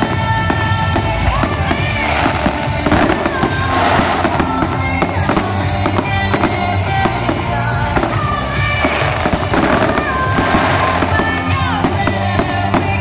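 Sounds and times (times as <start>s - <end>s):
fireworks bursting and crackling: 0.0s - 13.0s
music playing: 0.0s - 13.0s.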